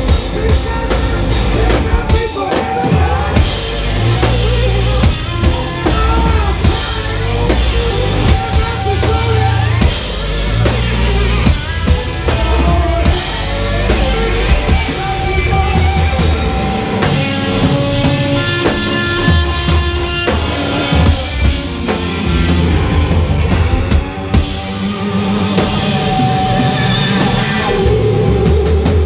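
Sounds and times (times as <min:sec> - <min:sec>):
drum kit hits: 0:00.0 - 0:29.0
electric guitars: 0:00.0 - 0:29.0
rock band playing live: 0:00.0 - 0:29.0.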